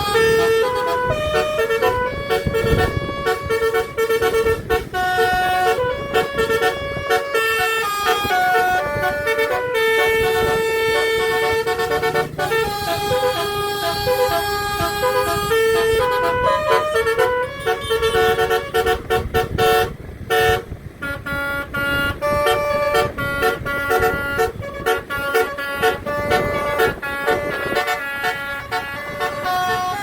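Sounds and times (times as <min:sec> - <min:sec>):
bus musical horn playing a tune: 0:00.0 - 0:30.0.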